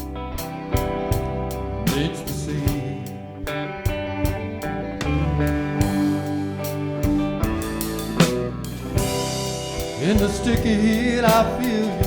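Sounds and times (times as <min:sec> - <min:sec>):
bass guitar: 0:00.0 - 0:12.0
drum kit steady beat: 0:00.0 - 0:12.0
electric guitar: 0:00.0 - 0:12.0.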